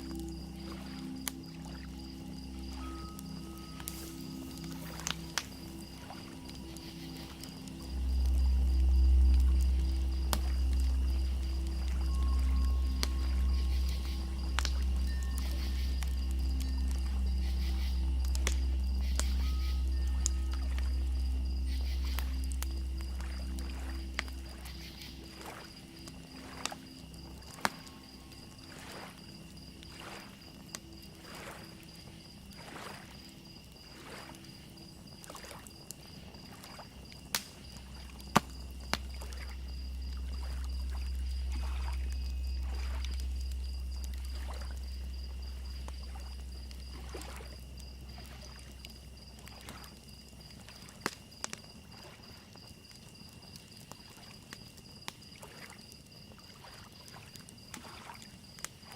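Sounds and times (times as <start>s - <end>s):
crickets chirping: 0.0s - 58.9s
fire crackling and popping: 0.0s - 58.9s
water lapping at shoreline: 0.0s - 58.9s.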